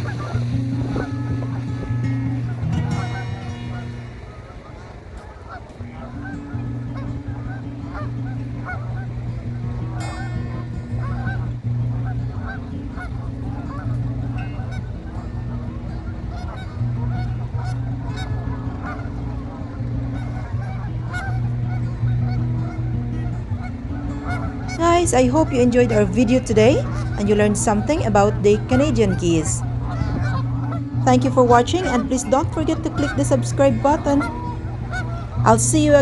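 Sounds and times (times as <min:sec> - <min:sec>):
geese honking: 0:00.0 - 0:36.0
low background music: 0:00.0 - 0:36.0.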